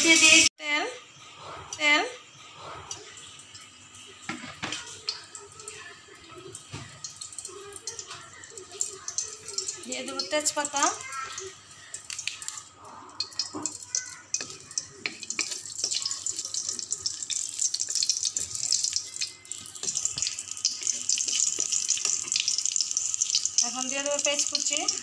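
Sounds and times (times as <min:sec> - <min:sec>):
leaves sizzling in hot oil: 0:00.0 - 0:00.5, 0:03.5 - 0:25.0.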